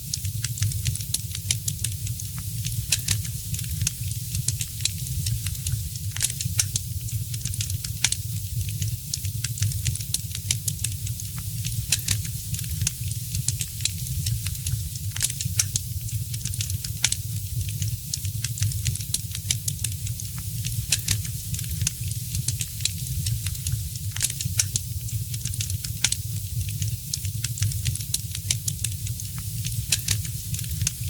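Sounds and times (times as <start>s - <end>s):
fire crackling and popping: 0.0s - 31.0s
low rumble of flames: 0.2s - 31.0s.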